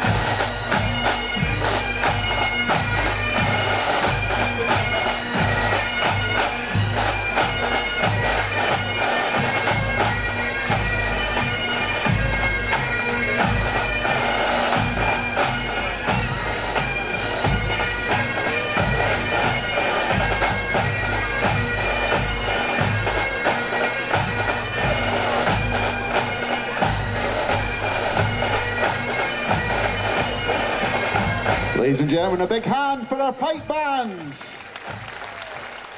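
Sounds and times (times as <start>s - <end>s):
bagpipes playing a march: 0.0s - 35.9s.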